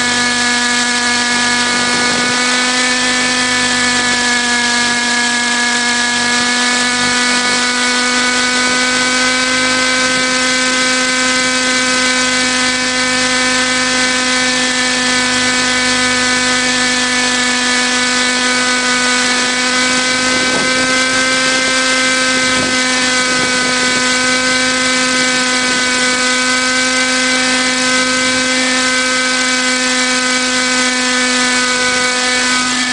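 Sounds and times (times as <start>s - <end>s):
model helicopter whine: 0.0s - 32.9s.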